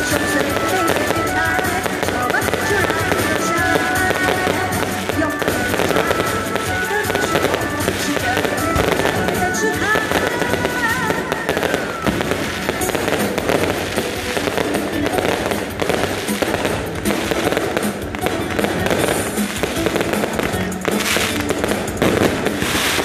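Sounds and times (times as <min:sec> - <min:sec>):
fireworks crackling and popping: 0:00.0 - 0:23.0
music playing: 0:00.0 - 0:23.0.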